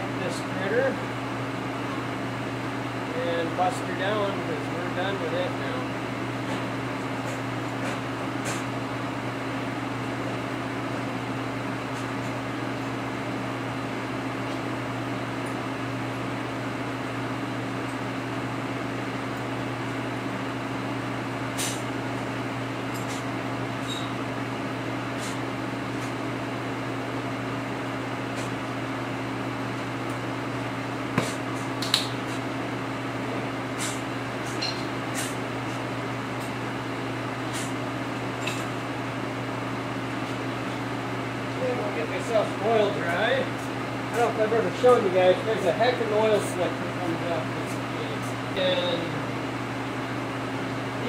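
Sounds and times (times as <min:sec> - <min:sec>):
boring mill humming: 0:00.0 - 0:51.0.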